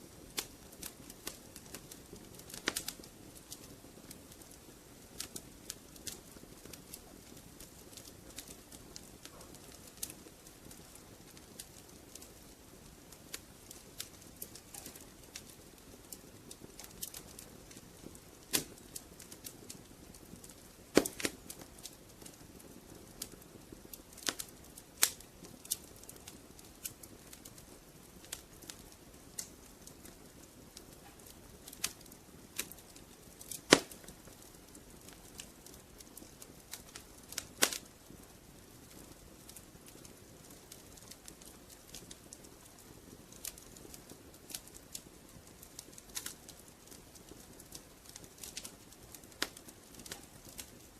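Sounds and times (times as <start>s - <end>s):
soft low hiss: 0.0s - 50.9s
wood fire crackling: 0.0s - 50.9s.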